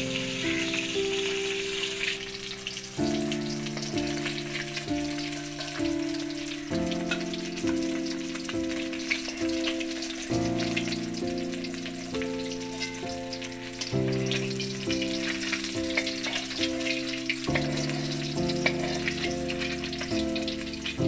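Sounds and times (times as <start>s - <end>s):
fish frying in hot oil: 0.0s - 21.0s
sustained chord music: 0.0s - 21.0s.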